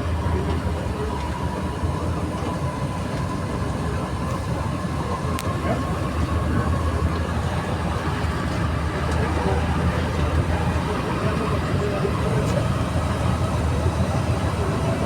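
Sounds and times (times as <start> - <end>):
thin steady whine: 0.0 - 15.0
train running rumble: 0.0 - 15.0.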